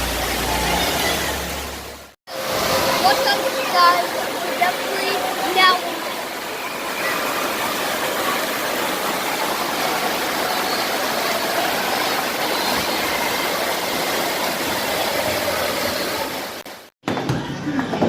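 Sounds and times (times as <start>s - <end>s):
splashing water: 0.0s - 17.0s.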